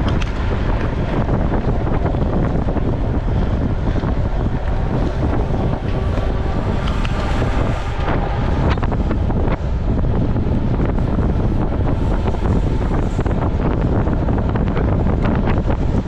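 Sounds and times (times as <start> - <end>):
bike running noise: 0.0 - 16.0
sharp clicks and rattles: 0.0 - 16.0
wind buffeting microphone: 0.0 - 16.0.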